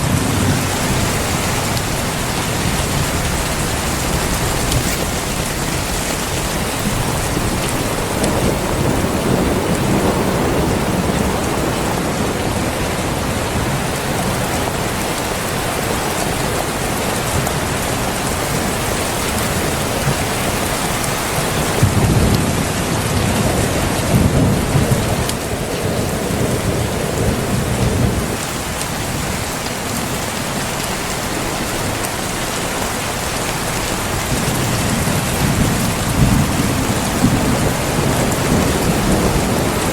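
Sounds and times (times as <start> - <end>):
heavy rain pouring: 0.0 - 39.9
thunder rumbling: 0.0 - 39.9.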